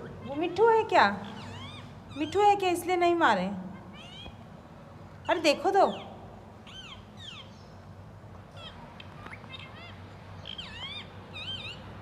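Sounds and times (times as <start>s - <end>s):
parrot chirping calls: 0.0s - 3.0s, 3.6s - 12.0s.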